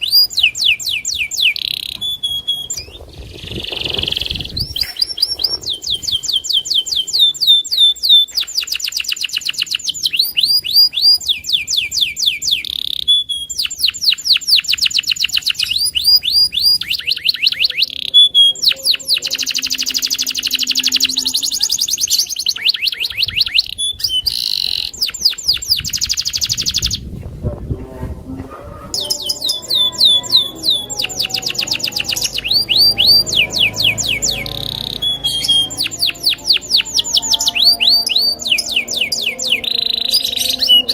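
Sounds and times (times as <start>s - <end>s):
canary singing trills: 0.0s - 27.1s, 28.7s - 40.9s.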